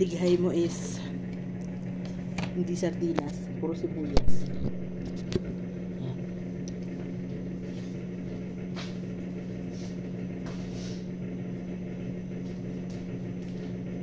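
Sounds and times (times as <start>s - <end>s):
appliance motor humming: 0.0s - 14.0s.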